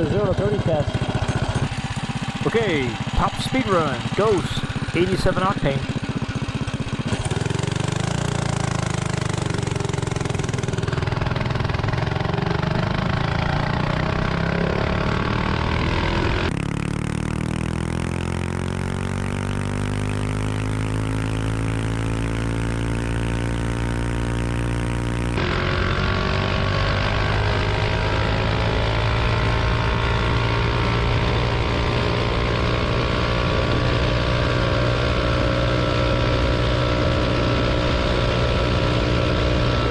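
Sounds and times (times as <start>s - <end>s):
small engine at full throttle: 0.0s - 39.9s.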